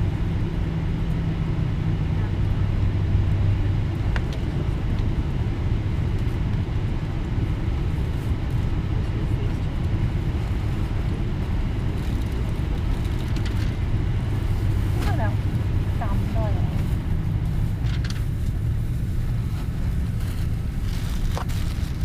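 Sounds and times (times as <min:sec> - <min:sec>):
airliner engine rumble and hum: 0:00.0 - 0:22.0.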